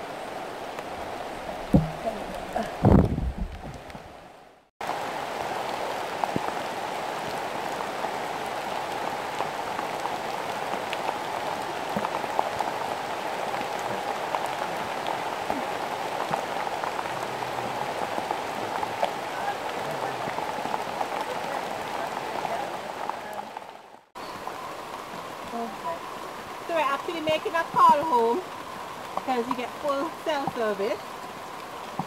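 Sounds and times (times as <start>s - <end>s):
rain on foliage: 0.0s - 32.0s.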